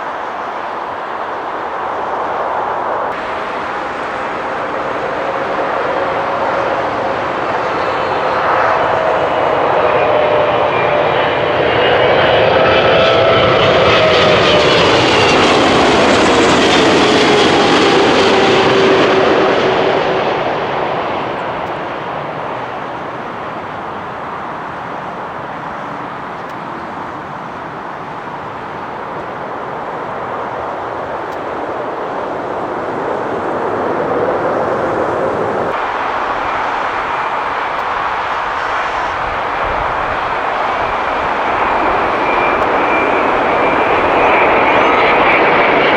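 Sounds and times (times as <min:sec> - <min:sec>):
jet airliner passing: 0:00.0 - 0:45.9
jet engine noise: 0:00.0 - 0:45.9.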